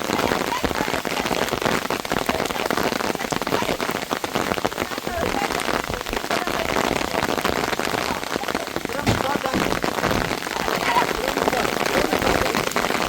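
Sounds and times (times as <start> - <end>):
heavy rain falling: 0.0 - 13.0
rain drops striking a surface: 0.0 - 13.0.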